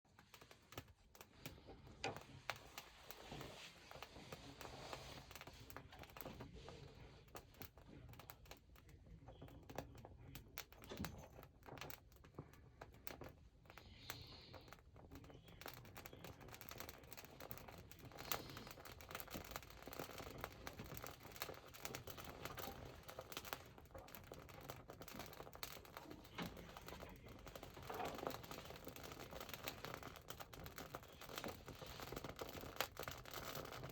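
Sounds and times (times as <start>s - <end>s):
wood fire crackling and popping: 0.1s - 33.9s.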